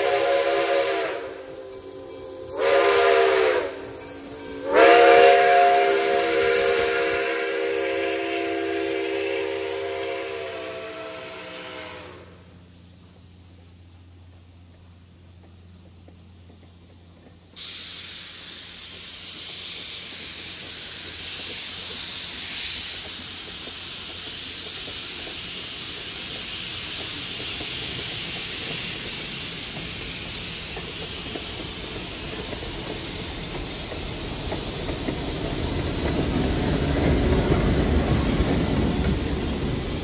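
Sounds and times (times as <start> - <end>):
diesel locomotive rumble: 0.0 - 40.0
passenger train rolling past: 0.0 - 40.0
steady hiss: 0.0 - 40.0.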